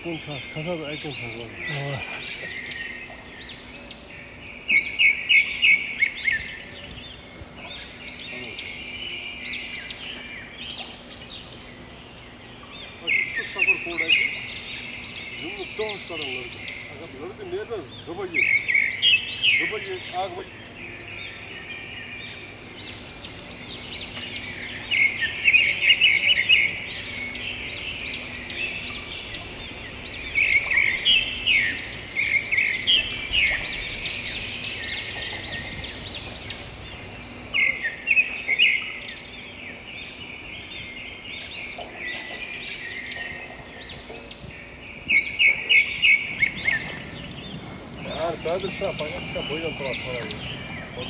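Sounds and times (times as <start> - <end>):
birds chirping and singing: 0.0 - 51.0.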